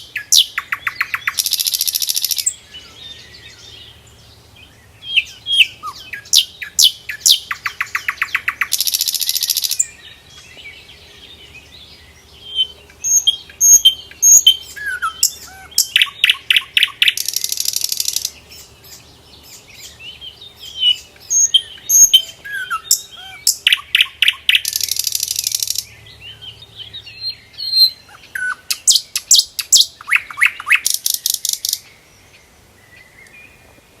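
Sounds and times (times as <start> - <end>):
songbird chirps and trills: 0.0 - 34.0.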